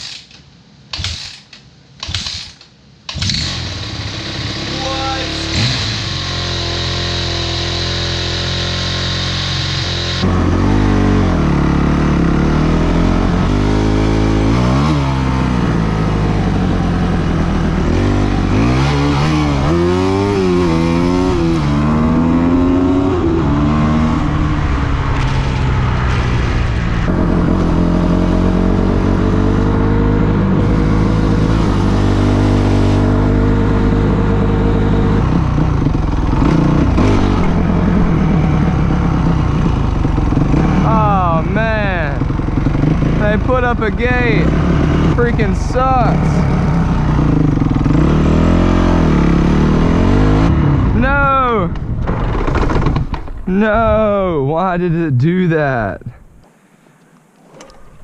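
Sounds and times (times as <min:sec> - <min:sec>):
vehicle engine idling and revving: 0:00.0 - 0:54.2.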